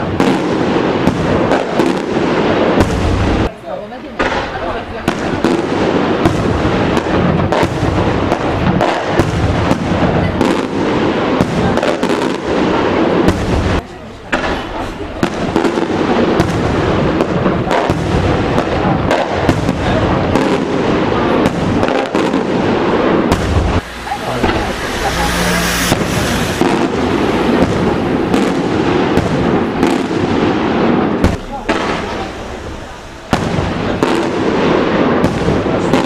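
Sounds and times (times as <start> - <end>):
fireworks bursting with crackling: 0.0 - 36.0.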